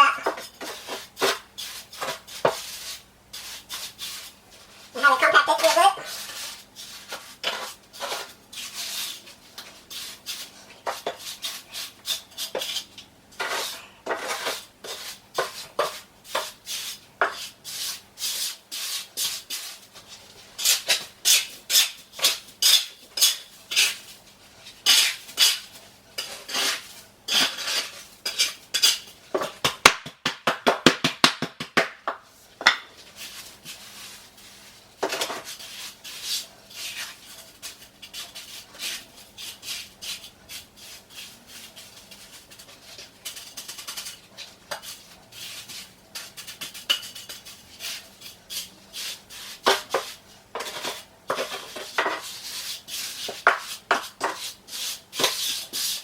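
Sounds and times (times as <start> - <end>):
wood scraping and tamping mortar: 0.0 - 24.0, 24.7 - 29.7, 32.6 - 56.0.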